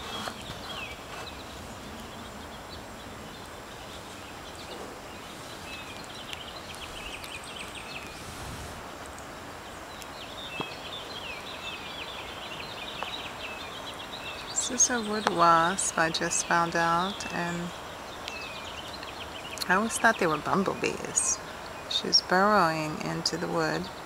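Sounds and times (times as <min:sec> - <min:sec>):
outdoor background hiss: 0:00.0 - 0:24.0
small birds twittering: 0:00.0 - 0:24.0.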